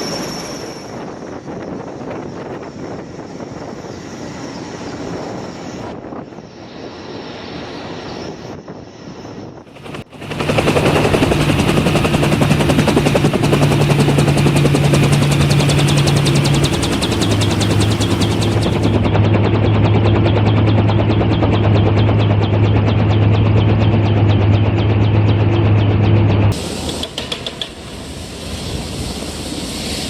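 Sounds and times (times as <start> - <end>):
helicopter engine drone: 0.0 - 30.0
helicopter rotor and wind noise: 0.0 - 30.0
helicopter rotor pulsing: 0.0 - 30.0.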